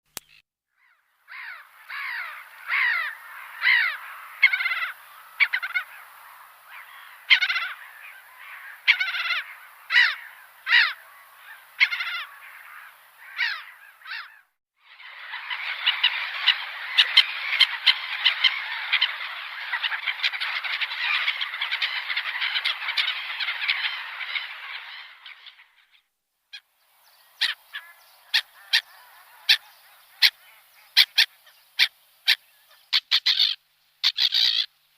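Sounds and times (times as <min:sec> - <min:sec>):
gulls calling: 0:00.2 - 0:34.7.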